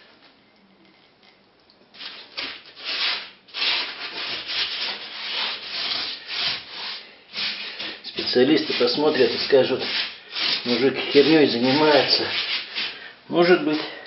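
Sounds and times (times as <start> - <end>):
bristle brush scrubbing concrete: 2.1 - 14.0.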